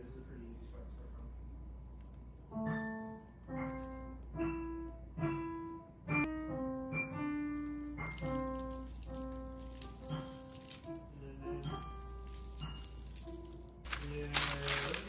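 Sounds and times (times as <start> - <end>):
slow piano melody: 2.2 - 15.0.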